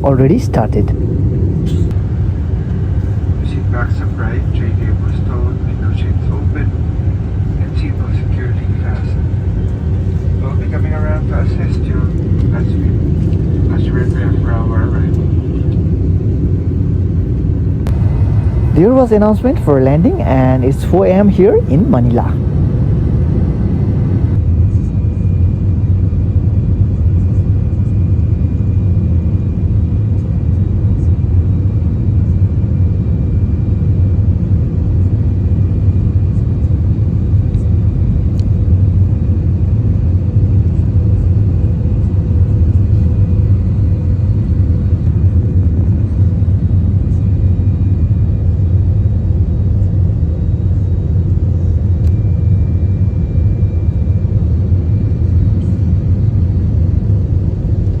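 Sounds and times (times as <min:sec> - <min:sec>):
aircraft cabin engine rumble: 0:00.0 - 0:58.0
faint steady whine: 0:00.0 - 0:58.0.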